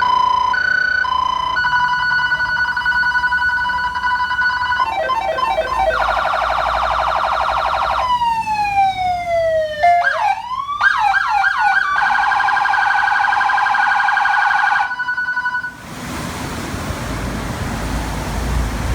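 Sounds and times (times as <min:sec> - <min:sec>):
electronic vehicle siren: 0:00.0 - 0:15.9.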